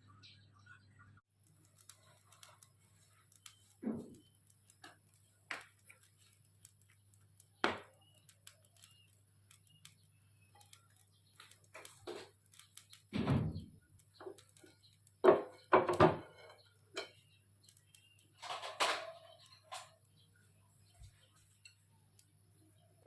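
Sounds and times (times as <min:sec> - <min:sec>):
small clicks: 0:01.3 - 0:13.2, 0:13.8 - 0:15.7, 0:16.6 - 0:22.8.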